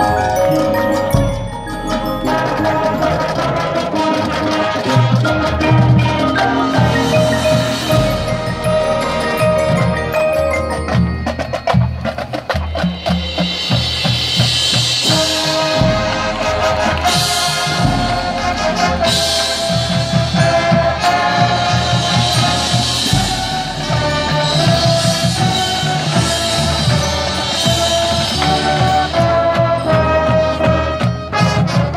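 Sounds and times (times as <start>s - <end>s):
rapid marimba mallet strikes: 0.0s - 31.0s
marching band playing: 0.0s - 31.9s
wind instruments holding chords: 0.0s - 31.9s.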